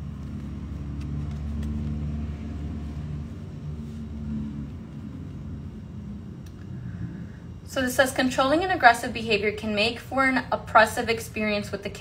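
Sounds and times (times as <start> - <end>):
low motor rumble: 0.0 - 10.8.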